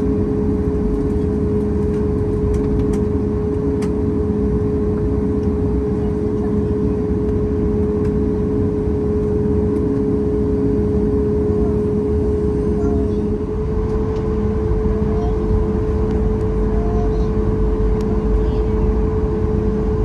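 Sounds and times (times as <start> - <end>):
aircraft cabin rumble: 0.0 - 20.0
steady engine hum: 0.0 - 20.0.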